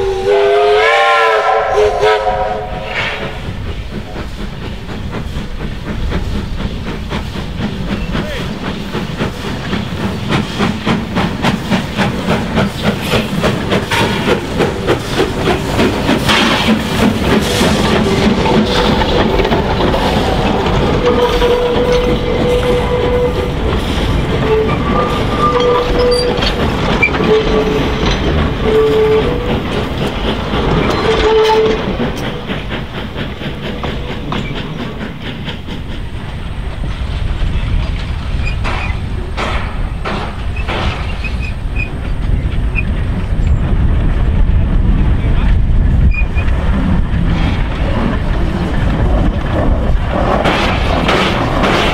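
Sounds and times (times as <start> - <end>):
steam locomotive chuffing: 0.0 - 51.9.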